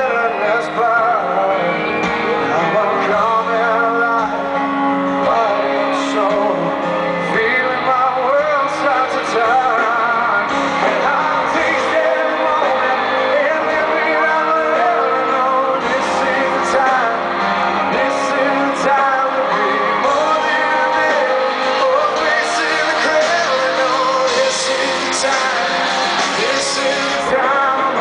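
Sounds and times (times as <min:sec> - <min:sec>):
man singing live: 0:00.0 - 0:28.0
rock band with guitar and drums: 0:00.0 - 0:28.0.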